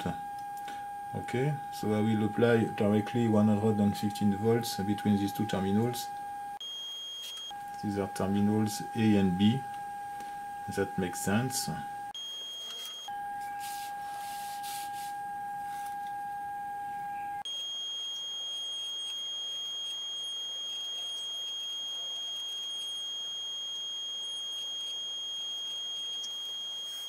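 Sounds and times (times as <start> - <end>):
electrical whine: 0.0 - 27.0.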